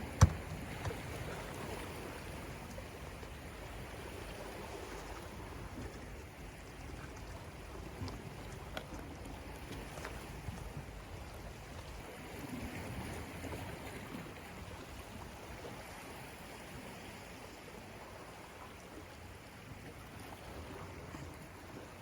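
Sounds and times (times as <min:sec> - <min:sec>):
sea water washing against shore: 0:00.0 - 0:22.0.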